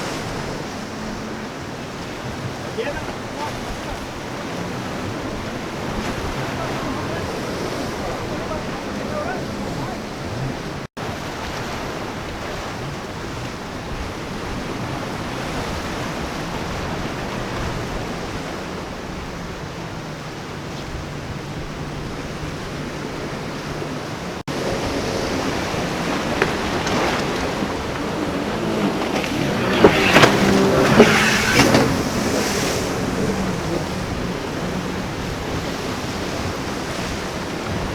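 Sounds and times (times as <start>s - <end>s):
surf and waves rushing: 0.0s - 37.9s
wind buffeting microphone: 0.0s - 37.9s.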